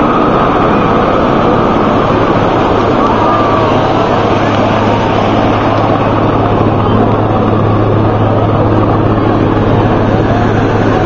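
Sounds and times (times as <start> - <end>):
helicopter rotor and turbine: 0.0 - 11.0.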